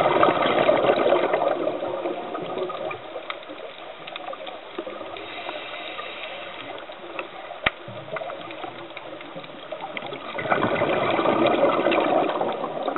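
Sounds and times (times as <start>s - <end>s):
crackle of small clicks underwater: 0.0s - 12.9s
diver's regulator bubbles: 0.0s - 12.9s.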